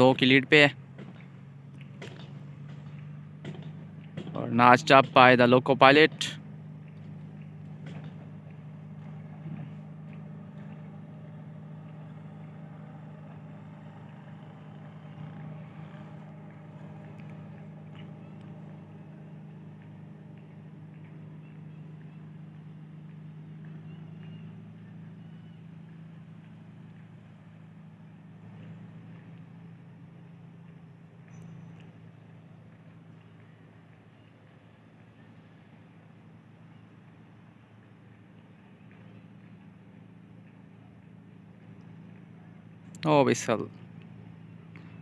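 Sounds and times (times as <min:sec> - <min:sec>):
locomotive engine drone: 0:00.0 - 0:45.0.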